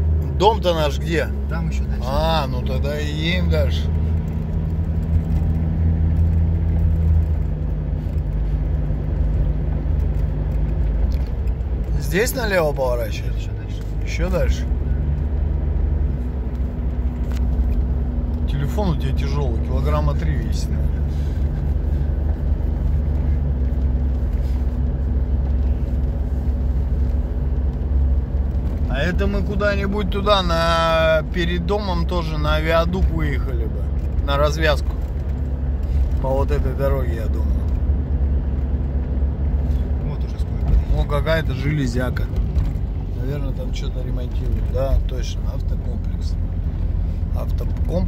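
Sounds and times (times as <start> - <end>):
car engine and tyre drone: 0.0 - 48.0.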